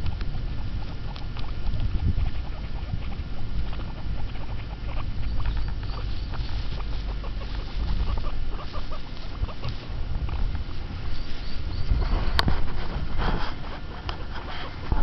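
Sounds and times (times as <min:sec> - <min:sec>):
guinea pigs rustling through grass: 0:00.0 - 0:15.0
steady low rumble: 0:00.0 - 0:15.0.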